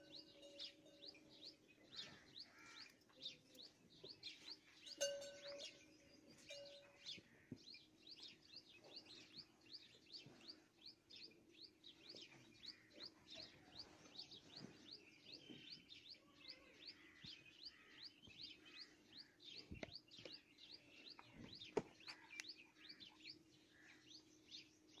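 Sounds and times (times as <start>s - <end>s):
small bird chirping: 0.0s - 25.0s.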